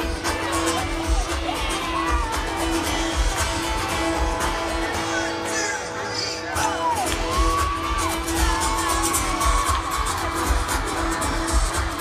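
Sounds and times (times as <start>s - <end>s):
crowd noise: 0.0s - 12.0s
live pop music: 0.0s - 12.0s.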